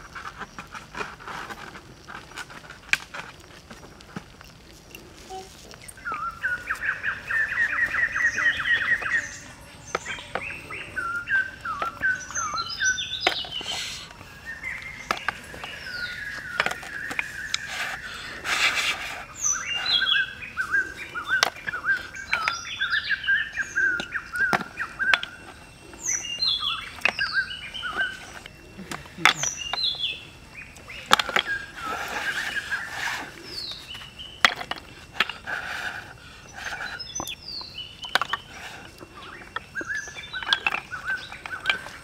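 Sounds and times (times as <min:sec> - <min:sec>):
birds chirping: 0:03.4 - 0:42.0.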